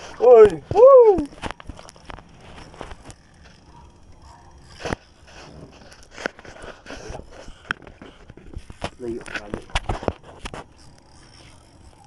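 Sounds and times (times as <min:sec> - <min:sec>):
fishing reel clicks and scrapes: 0:00.0 - 0:12.0.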